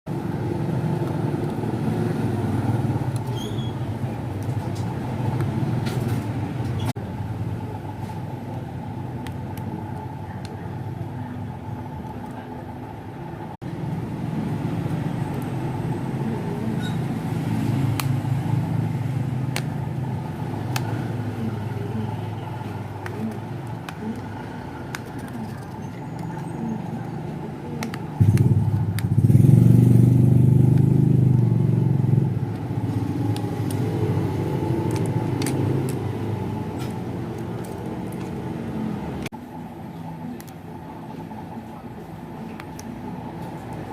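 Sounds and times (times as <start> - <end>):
traffic rumble: 0.1 - 43.9.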